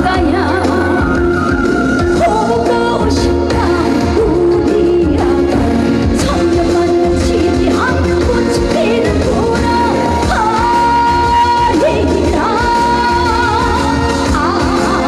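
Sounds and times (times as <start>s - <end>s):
instrumental accompaniment: 0.0s - 15.0s
woman singing with vibrato: 0.0s - 15.0s.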